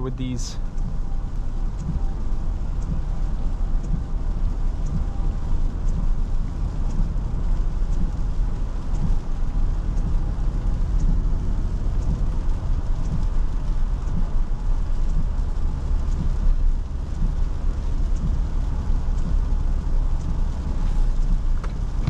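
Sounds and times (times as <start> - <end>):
road and tyre rumble: 0.0 - 22.0
faint light tick: 0.1 - 22.0
hiss of wet road: 0.1 - 22.0.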